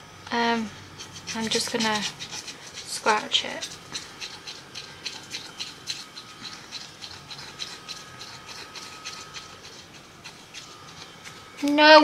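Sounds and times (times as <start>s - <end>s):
scratch card rasping: 0.9s - 12.0s.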